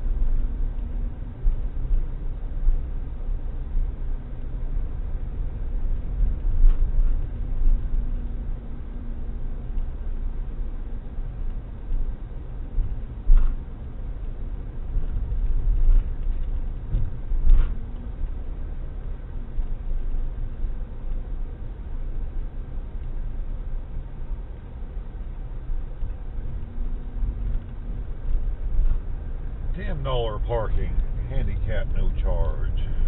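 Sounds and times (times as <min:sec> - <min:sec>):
car driving heard from inside: 0:00.0 - 0:33.0.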